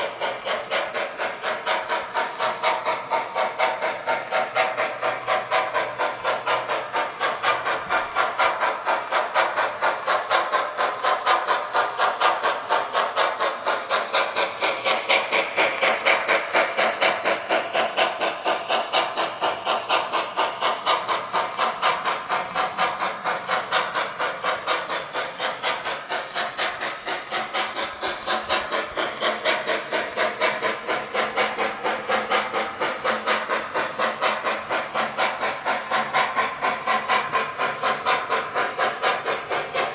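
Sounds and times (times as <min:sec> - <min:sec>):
model steam locomotive chuffing: 0:00.0 - 0:39.9.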